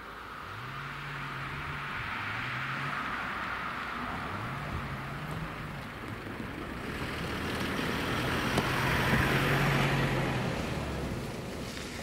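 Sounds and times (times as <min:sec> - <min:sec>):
truck driving past: 0:00.5 - 0:12.0.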